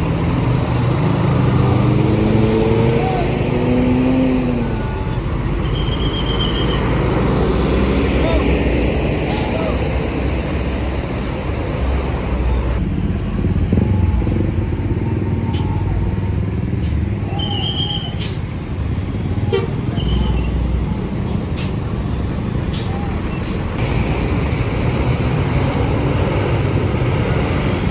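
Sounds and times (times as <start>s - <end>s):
bus diesel engines rumbling: 0.0s - 27.9s
road traffic: 0.0s - 27.9s.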